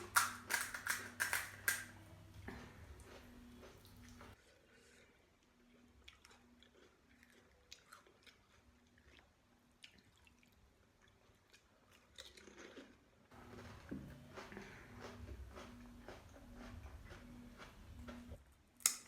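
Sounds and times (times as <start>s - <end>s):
chewing crisp snack food: 0.0s - 4.4s, 5.4s - 19.0s.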